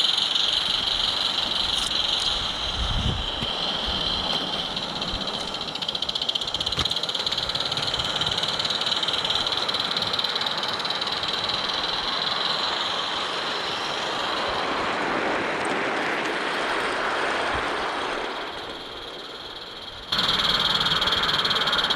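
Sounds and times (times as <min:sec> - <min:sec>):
small steam train running on track: 0:00.0 - 0:21.9.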